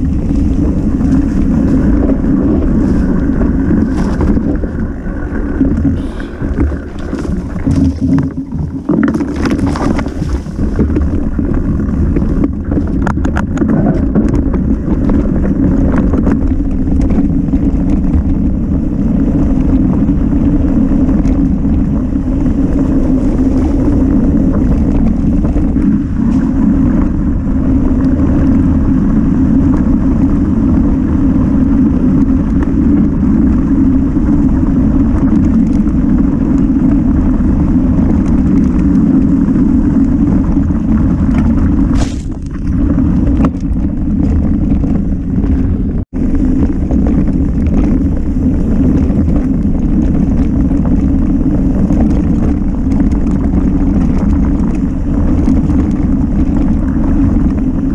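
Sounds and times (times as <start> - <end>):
bike rattling over rough ground: 0.0 - 57.9
tyre and wind noise: 0.0 - 57.9.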